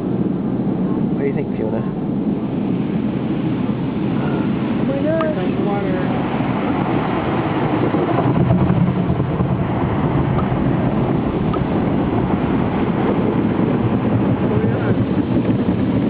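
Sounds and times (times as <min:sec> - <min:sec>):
car wash rushing noise: 0:00.0 - 0:16.0.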